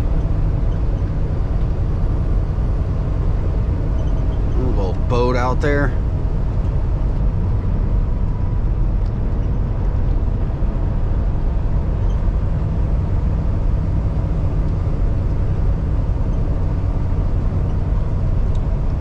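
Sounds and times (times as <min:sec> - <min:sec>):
road and tyre noise: 0:00.0 - 0:19.0
truck diesel engine drone: 0:00.0 - 0:19.0.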